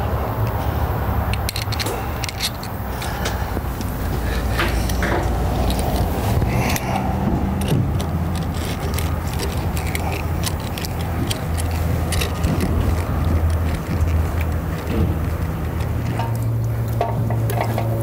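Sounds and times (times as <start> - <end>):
hand tool clicking on fittings: 1.3 - 18.0.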